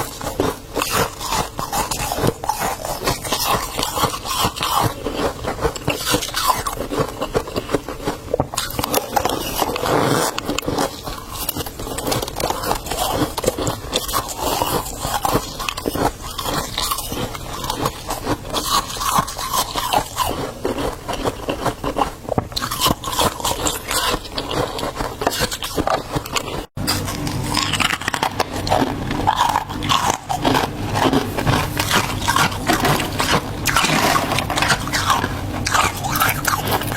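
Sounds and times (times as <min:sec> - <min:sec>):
frost crunching and scraping: 0:00.0 - 0:36.9.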